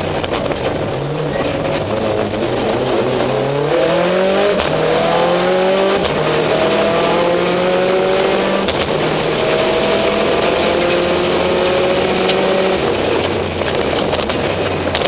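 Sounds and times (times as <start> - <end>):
gear shift crack: 0.0 - 15.0
rally car engine accelerating: 0.0 - 15.0.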